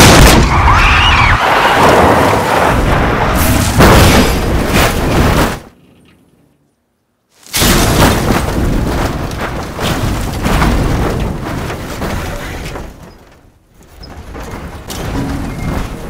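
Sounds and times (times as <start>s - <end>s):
vehicle crashing and tumbling: 0.0s - 6.8s, 7.4s - 16.0s.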